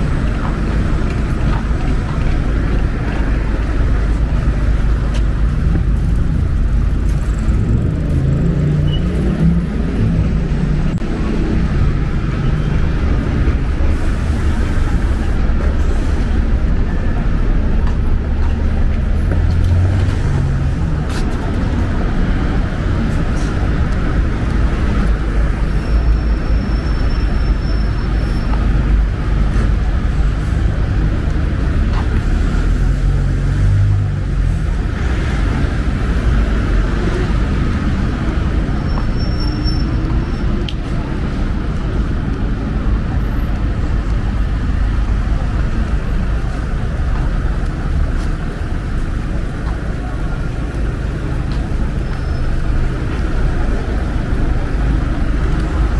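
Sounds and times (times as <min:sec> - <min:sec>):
street traffic rumble: 0:00.0 - 0:55.9
vehicle engines passing: 0:00.0 - 0:55.9.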